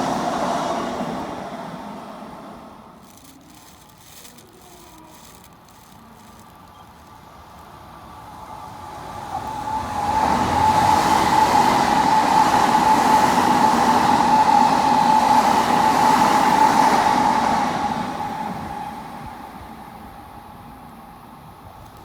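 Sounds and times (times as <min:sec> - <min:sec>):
electric train running past: 0:00.0 - 0:03.2, 0:07.1 - 0:22.0
high whine of train: 0:00.0 - 0:22.0.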